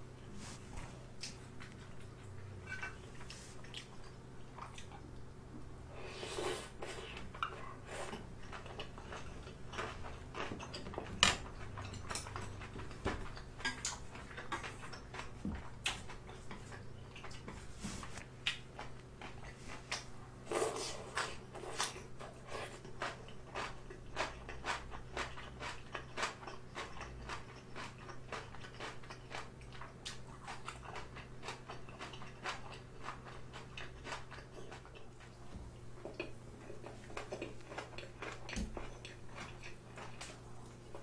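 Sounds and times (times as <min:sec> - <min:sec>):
low steady hum: 0:00.0 - 0:41.0
chewing: 0:00.7 - 0:05.3, 0:06.0 - 0:41.0.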